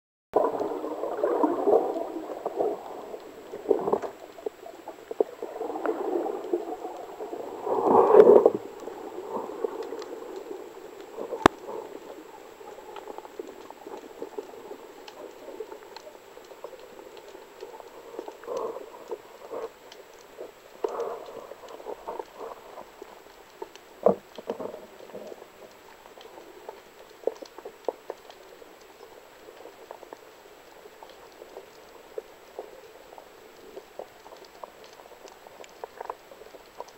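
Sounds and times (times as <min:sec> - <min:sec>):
muffled underwater rushing: 0:00.4 - 0:36.9
small clicks underwater: 0:00.4 - 0:36.9.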